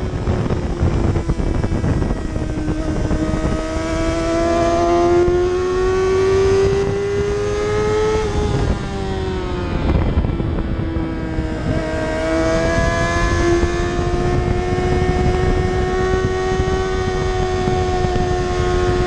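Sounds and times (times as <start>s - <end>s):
motorbike engine accelerating: 0.0s - 19.0s
wind rush: 0.0s - 19.0s.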